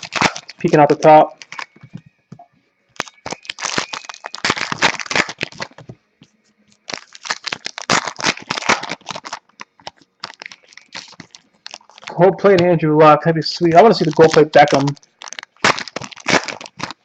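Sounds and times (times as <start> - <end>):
foil wrappers crinkling: 0.0 - 2.0, 3.0 - 5.9, 6.7 - 12.2, 13.6 - 17.0
cards being flipped through: 0.0 - 2.1, 3.0 - 12.7, 13.7 - 17.0.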